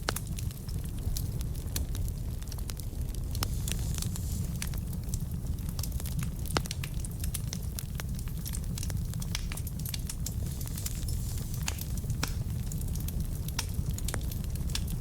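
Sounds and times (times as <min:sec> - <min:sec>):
fire flames rumbling: 0:00.0 - 0:15.0
logs crackling and popping: 0:00.0 - 0:15.0.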